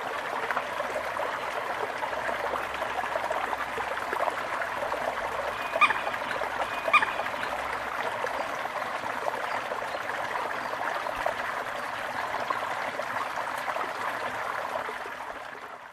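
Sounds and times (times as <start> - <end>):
stream water trickling: 0.0 - 15.9.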